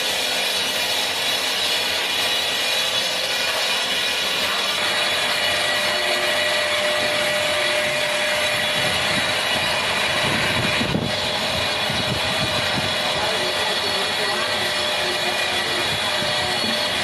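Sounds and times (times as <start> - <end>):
heavy machinery running: 0.0 - 17.0
machine whine: 0.0 - 17.0.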